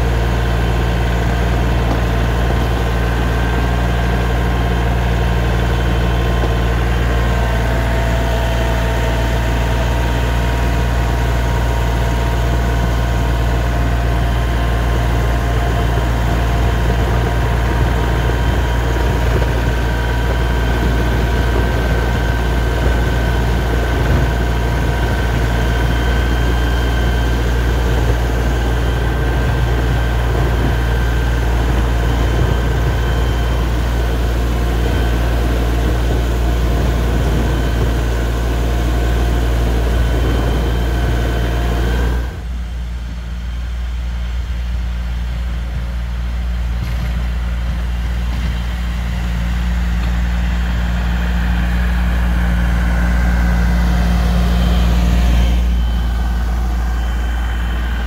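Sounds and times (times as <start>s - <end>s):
steady whining tones: 0.0s - 58.0s
tractor diesel engine running: 0.0s - 58.0s.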